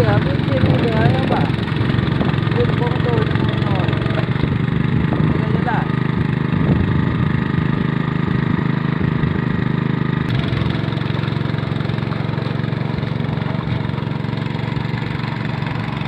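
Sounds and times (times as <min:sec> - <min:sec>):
hand tractor engine running: 0:00.0 - 0:16.0.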